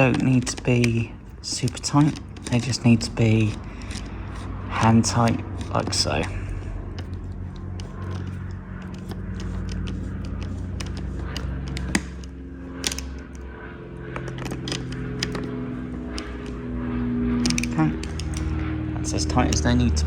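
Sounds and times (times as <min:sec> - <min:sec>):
metallic socket clicks and scrapes: 0:00.0 - 0:13.4, 0:14.1 - 0:16.6, 0:17.4 - 0:18.7
steady low hum: 0:00.0 - 0:20.0.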